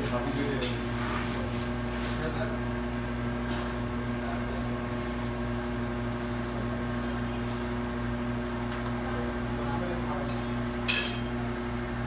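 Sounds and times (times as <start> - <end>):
electric machine hum: 0.0 - 12.0.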